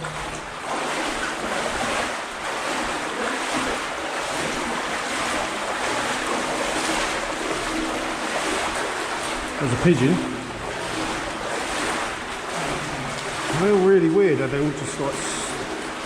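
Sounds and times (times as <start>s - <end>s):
water rushing through tunnel: 0.0s - 16.0s.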